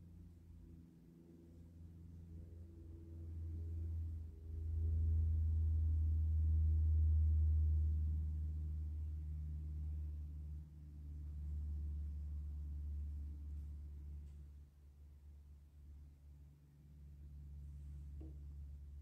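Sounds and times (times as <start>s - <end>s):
low sustained tones: 0.0s - 19.0s.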